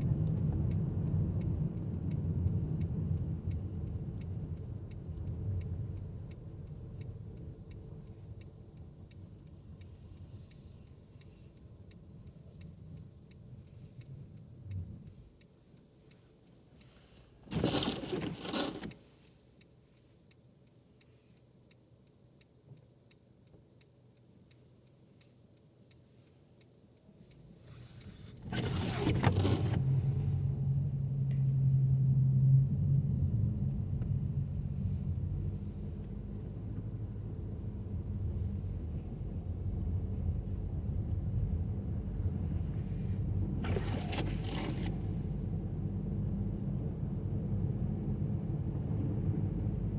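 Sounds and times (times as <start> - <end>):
car engine and road rumble: 0.0 - 49.9
turn signal ticking: 0.0 - 49.9.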